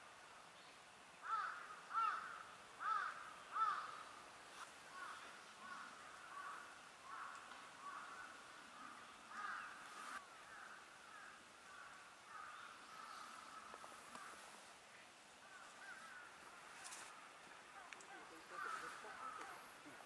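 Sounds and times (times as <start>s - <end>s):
birds calling faintly: 0.0s - 20.0s.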